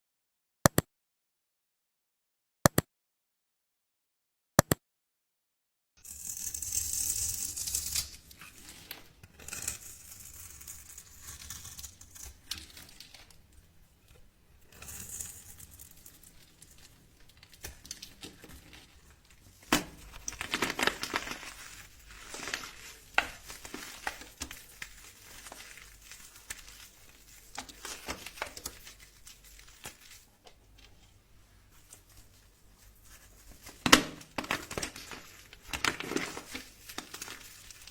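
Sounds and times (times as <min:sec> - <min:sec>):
knife cutting crumbling soap: 0:06.1 - 0:31.1, 0:31.8 - 0:37.9.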